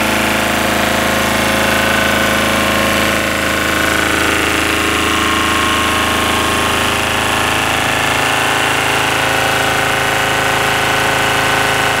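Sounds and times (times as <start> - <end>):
diesel generator running: 0.0 - 12.0.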